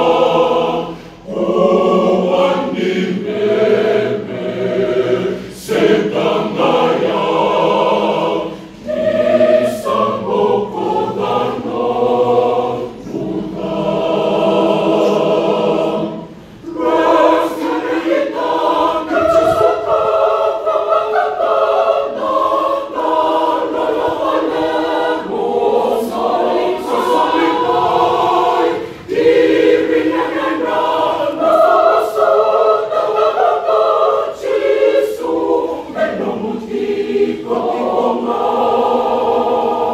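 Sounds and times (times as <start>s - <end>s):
choir breaths: 0.0s - 39.9s
choir singing a hymn a cappella: 0.0s - 39.9s.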